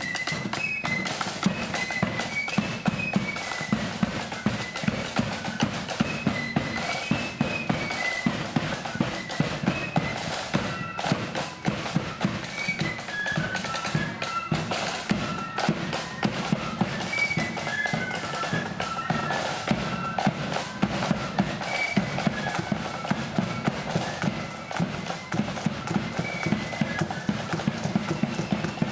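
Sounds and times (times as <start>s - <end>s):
flutes playing a tune: 0.0s - 28.9s
marching drumbeat: 0.0s - 28.9s.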